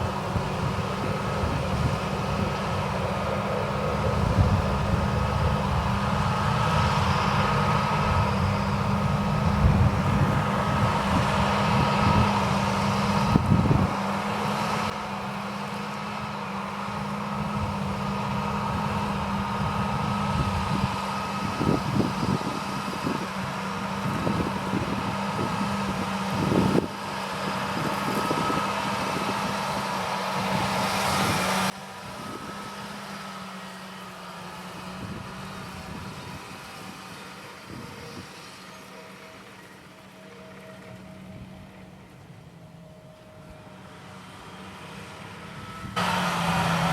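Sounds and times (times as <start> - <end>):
tractor and baler drone: 0.0 - 46.9.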